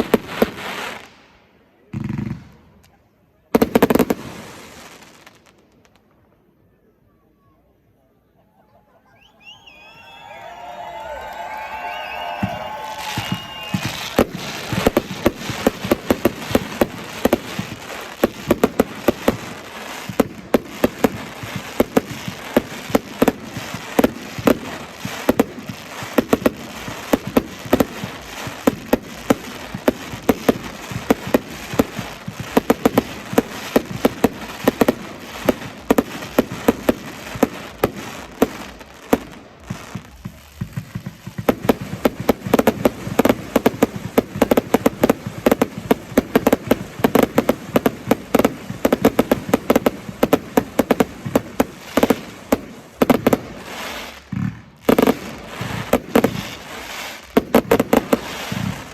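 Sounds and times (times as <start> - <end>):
fireworks cracks and bangs: 0.0 - 1.2, 1.8 - 3.0, 3.6 - 6.1, 9.8 - 58.9.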